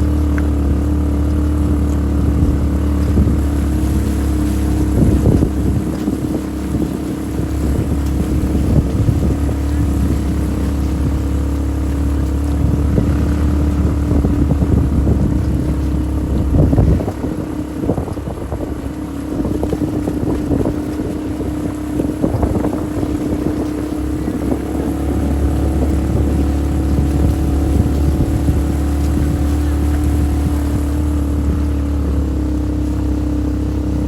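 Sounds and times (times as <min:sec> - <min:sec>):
off-road vehicle engine: 0:00.0 - 0:34.0
wind on microphone: 0:00.0 - 0:34.0.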